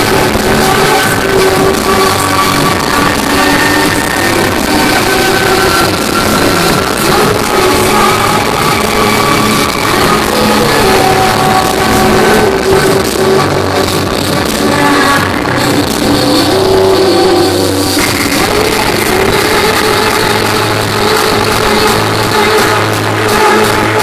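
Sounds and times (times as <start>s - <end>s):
loud electronic dance music: 0.0s - 24.0s.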